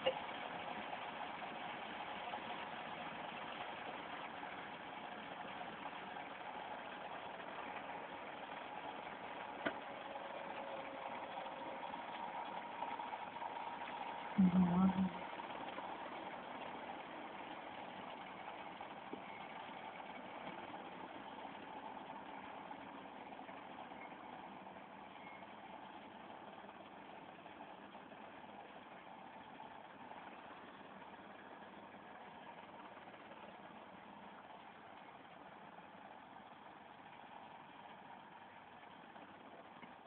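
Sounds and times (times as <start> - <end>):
distant tractor engine running: 0.0 - 40.0.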